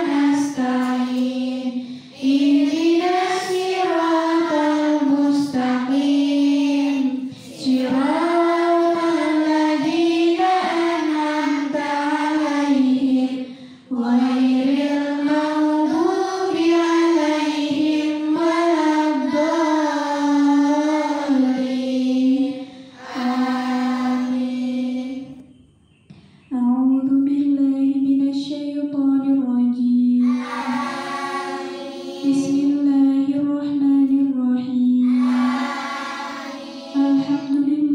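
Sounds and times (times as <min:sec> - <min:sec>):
girls chanting a prayer in unison: 0:00.0 - 0:25.4, 0:29.9 - 0:37.9.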